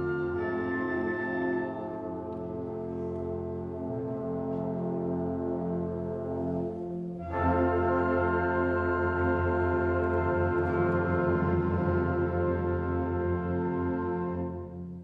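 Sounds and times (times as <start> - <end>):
wind ensemble playing chords: 0.0 - 15.0.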